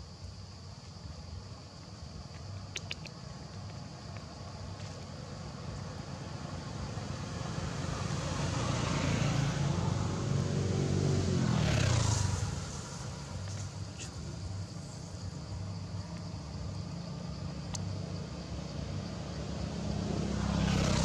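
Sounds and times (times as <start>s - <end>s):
vehicle passing on road: 2.8s - 21.0s.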